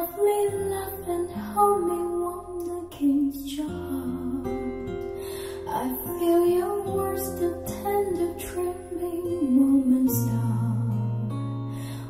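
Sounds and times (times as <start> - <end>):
pop music with guitar: 0.0 - 12.0.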